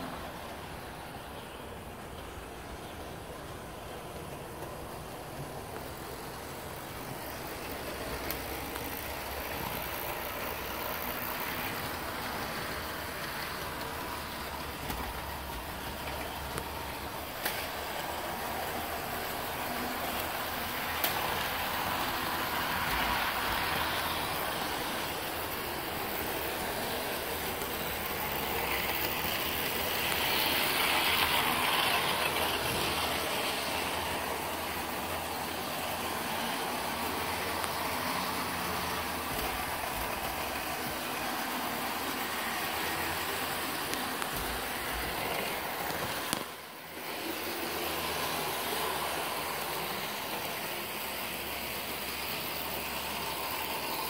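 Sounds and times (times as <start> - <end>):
model train whirring on rails: 0.0 - 54.0.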